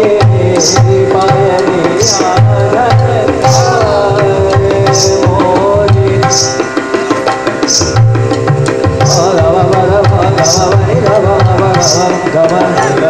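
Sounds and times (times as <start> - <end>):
devotional music: 0.0 - 13.0
tabla beat: 0.0 - 13.0.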